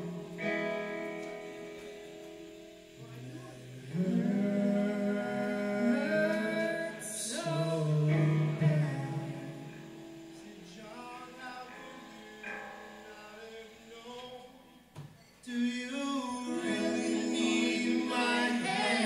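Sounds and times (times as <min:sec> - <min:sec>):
singers holding long notes: 0:00.0 - 0:01.7, 0:02.5 - 0:19.0.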